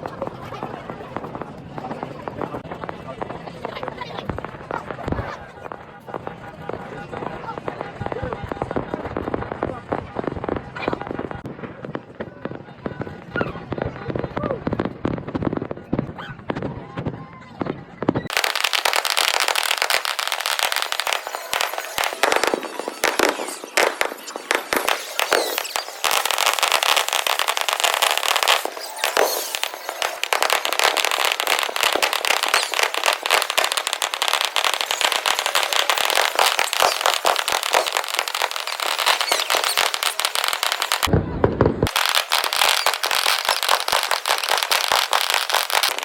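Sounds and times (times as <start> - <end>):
fireworks popping and crackling: 0.0 - 46.0.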